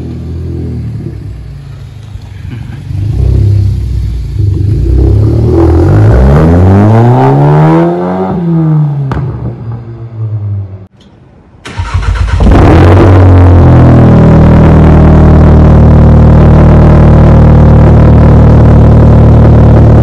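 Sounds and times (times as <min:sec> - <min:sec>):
car accelerating with raspy exhaust: 0:00.0 - 0:09.3, 0:12.4 - 0:20.0.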